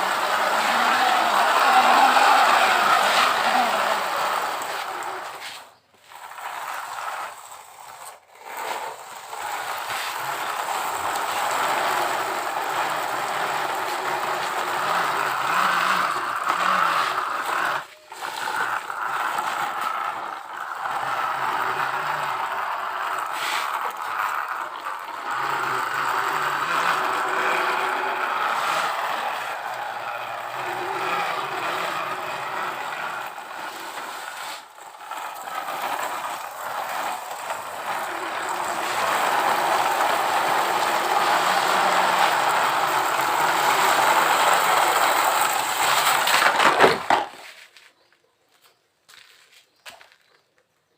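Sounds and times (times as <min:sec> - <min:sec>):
toy trucks scraping and rattling: 0:00.0 - 0:48.3.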